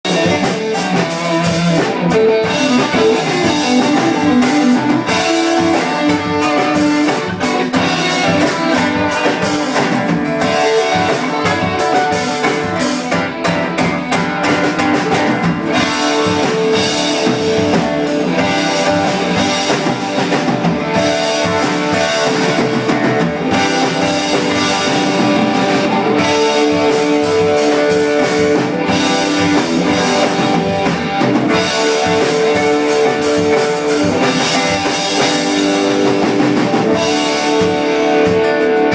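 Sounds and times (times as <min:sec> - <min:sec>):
drum kit hits: 0:00.0 - 0:38.9
electric guitar: 0:00.0 - 0:38.9.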